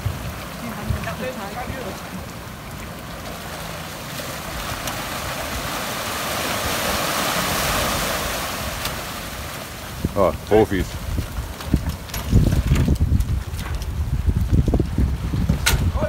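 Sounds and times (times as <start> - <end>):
surf washing up a concrete ramp: 0.0 - 16.0.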